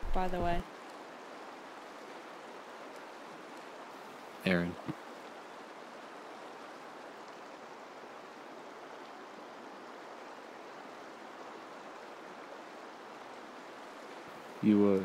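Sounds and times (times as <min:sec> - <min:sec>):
river water rushing over a weir: 0:00.0 - 0:15.0.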